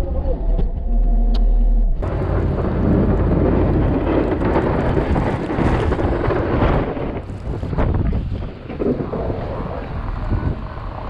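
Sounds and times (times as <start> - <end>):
blizzard wind buffeting microphone: 0.0 - 11.0
vehicle engine hum: 0.0 - 11.0.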